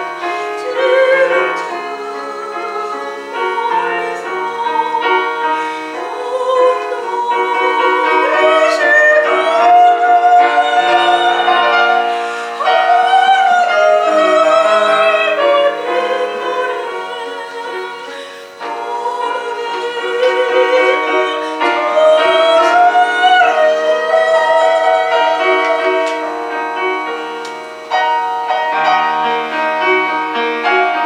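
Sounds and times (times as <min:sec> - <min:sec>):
piano accompaniment: 0:00.0 - 0:31.0
soprano singing: 0:00.0 - 0:31.0.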